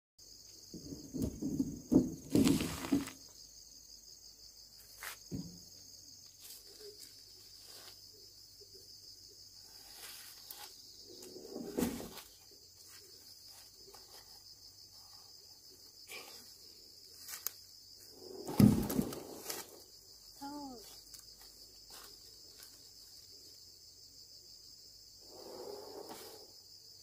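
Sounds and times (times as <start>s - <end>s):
insects chirring: 0.2s - 27.0s.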